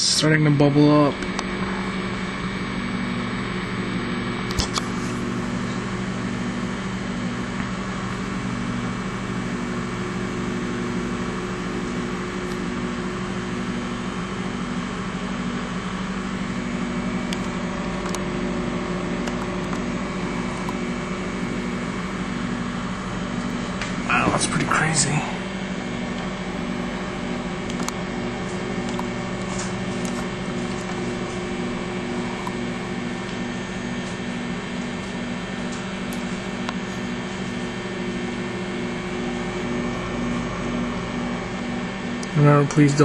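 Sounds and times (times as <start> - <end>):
microwave oven humming: 0.0 - 43.0.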